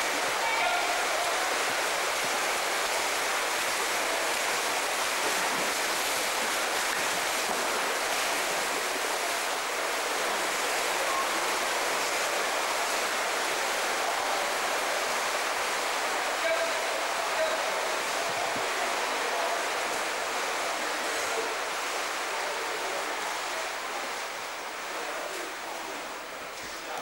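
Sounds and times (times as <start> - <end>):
swimmers splashing in pool: 0.0 - 27.0.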